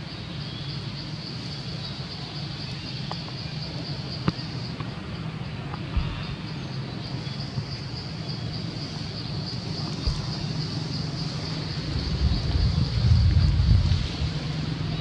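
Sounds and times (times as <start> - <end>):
high insect-like drone: 0.0 - 15.0
low engine-like hum: 0.0 - 15.0.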